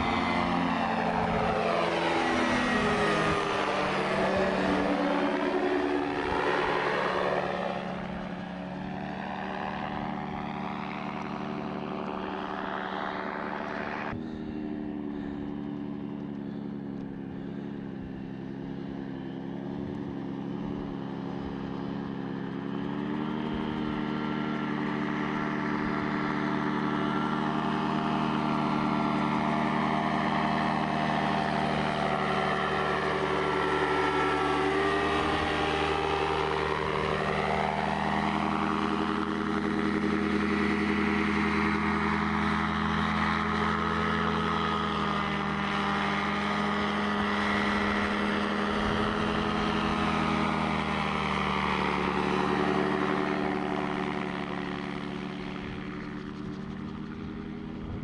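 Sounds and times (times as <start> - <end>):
gyrocopter engine and propeller droning: 0.0 - 58.0.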